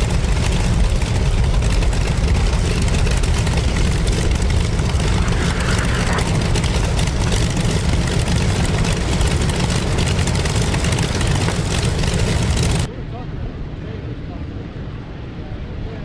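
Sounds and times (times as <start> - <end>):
propeller noise: 0.0 - 12.9
piston aircraft engines droning: 0.0 - 16.0.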